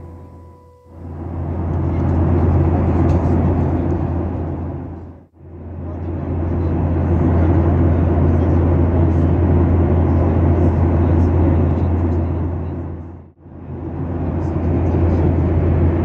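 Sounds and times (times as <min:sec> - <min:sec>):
aircraft cabin engine drone: 0:00.0 - 0:16.0.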